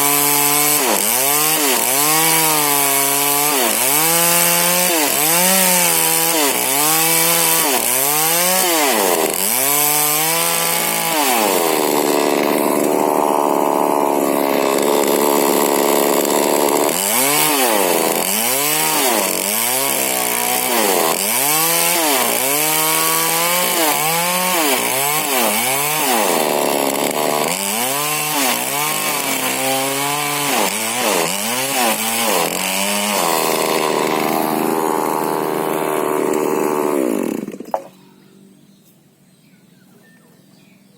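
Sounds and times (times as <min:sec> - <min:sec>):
chainsaw revving: 0:00.0 - 0:38.0.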